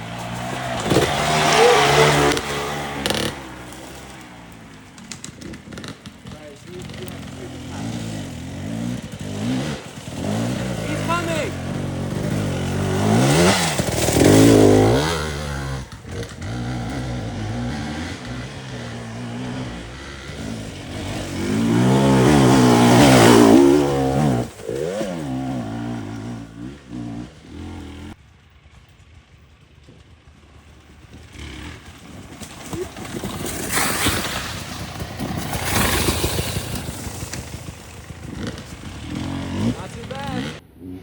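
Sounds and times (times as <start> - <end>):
dirt bike engine revving: 0.0 - 28.2, 30.8 - 41.0.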